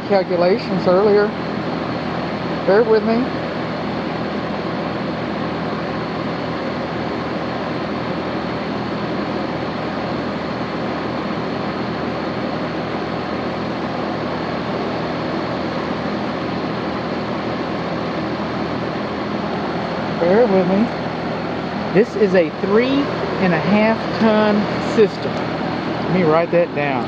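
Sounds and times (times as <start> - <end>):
compressor low hum: 0.0 - 27.0
condenser fan blowing air: 0.0 - 27.0.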